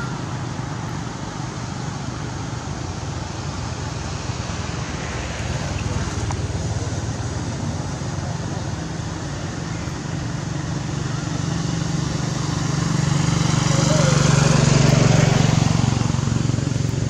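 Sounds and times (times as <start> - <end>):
outdoor background rumble and hiss: 0.0 - 17.0.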